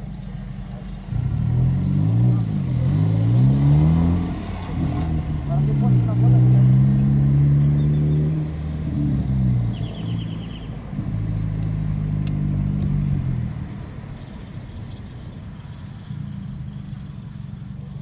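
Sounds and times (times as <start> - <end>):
car engine through loud exhaust: 0.0 - 18.0.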